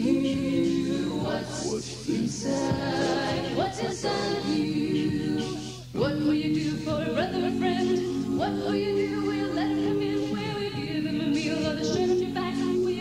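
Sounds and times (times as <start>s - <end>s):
vocal group singing gospel: 0.0s - 13.0s.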